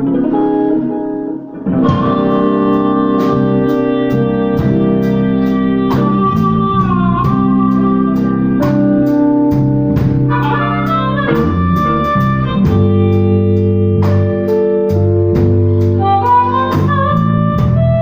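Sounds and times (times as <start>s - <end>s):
blues band chords: 0.0s - 18.0s
steady drum beat: 1.8s - 18.0s.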